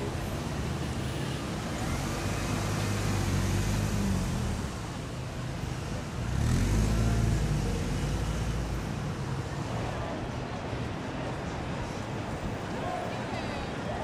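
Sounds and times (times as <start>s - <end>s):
vehicles passing: 0.0s - 14.0s.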